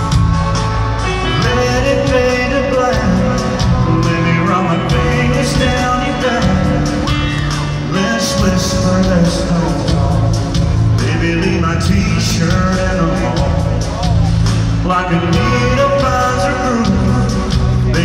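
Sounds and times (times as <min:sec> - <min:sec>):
live band playing: 0:00.0 - 0:18.0
man singing lead: 0:01.1 - 0:18.0.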